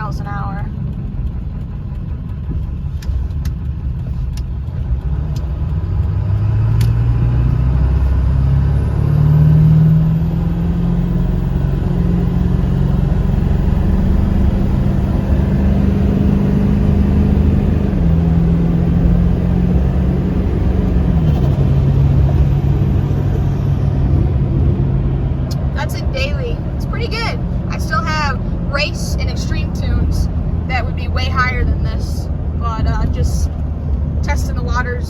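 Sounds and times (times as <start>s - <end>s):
diesel engine accelerating: 0.0s - 35.0s.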